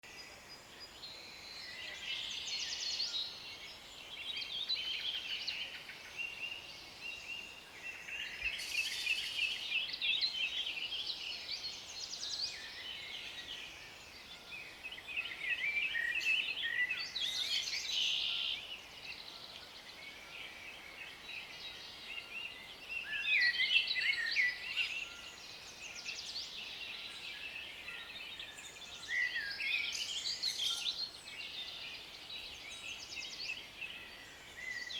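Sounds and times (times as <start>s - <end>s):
birds chirping and trilling: 0.3s - 34.9s.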